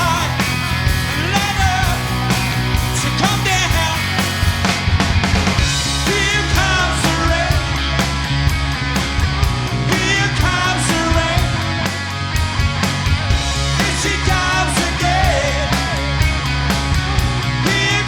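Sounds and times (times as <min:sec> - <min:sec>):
loud rock song with band: 0:00.0 - 0:18.0.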